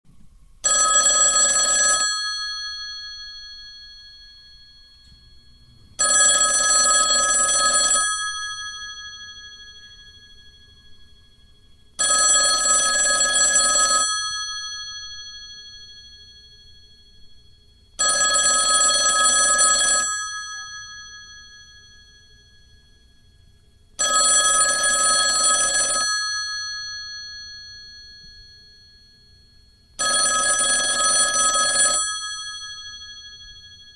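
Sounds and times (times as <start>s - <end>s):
telephone bell ringing: 0.6s - 33.9s.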